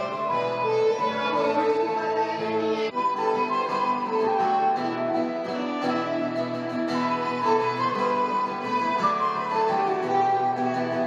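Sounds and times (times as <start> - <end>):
fiddle melody: 0.0 - 11.0
plucked strings: 0.0 - 11.0.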